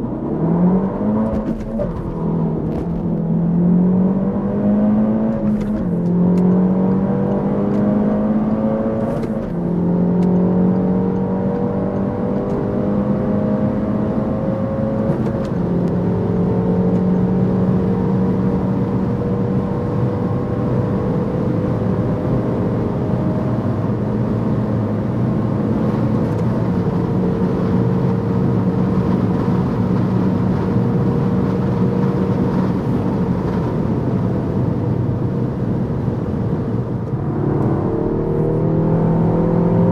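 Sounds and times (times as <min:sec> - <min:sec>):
car engine at full throttle: 0:00.0 - 0:39.9
road and wind noise: 0:00.0 - 0:39.9.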